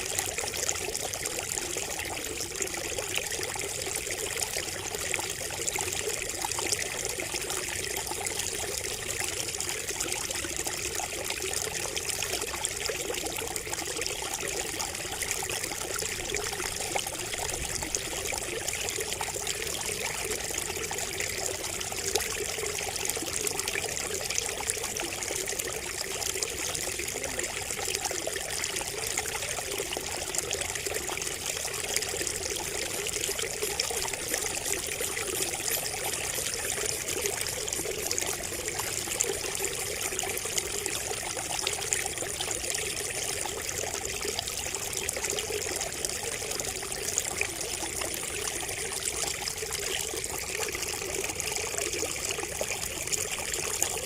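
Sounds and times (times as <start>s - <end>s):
water pouring from bamboo spout: 0.0s - 54.0s.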